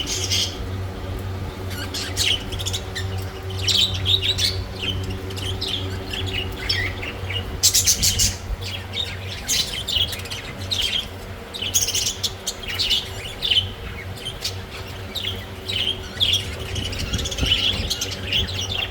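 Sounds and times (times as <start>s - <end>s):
budgerigars chirping: 0.0s - 0.8s, 1.4s - 18.9s
steady low hum: 0.0s - 18.9s.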